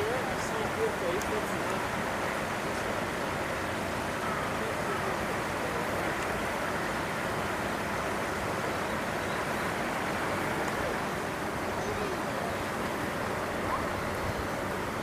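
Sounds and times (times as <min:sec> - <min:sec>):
distant voices murmuring: 0:00.0 - 0:15.0
steady rushing noise: 0:00.0 - 0:15.0.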